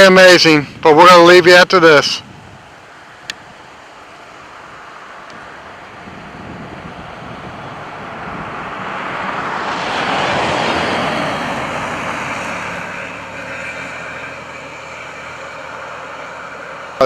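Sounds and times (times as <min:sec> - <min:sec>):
vehicle tyre and road noise: 0:00.0 - 0:17.0.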